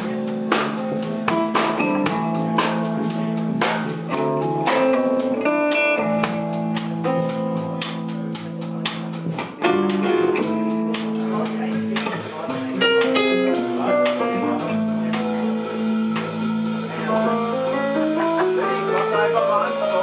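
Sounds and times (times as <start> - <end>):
drum kit beat: 0.0 - 20.0
electric bass: 0.0 - 20.0
electric guitar: 0.0 - 20.0.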